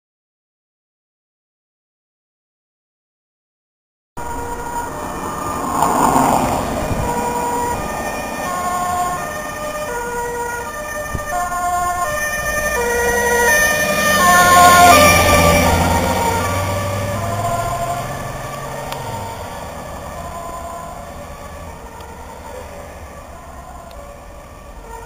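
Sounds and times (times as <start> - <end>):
engine rumble: 4.2 - 25.0
two-tone ambulance siren: 4.2 - 25.0.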